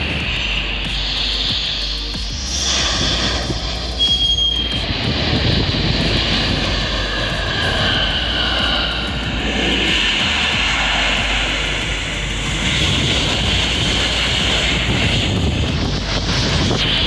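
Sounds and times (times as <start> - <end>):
jet engines roaring with high whine: 0.0 - 17.0
wind rumble on microphone: 0.0 - 17.0.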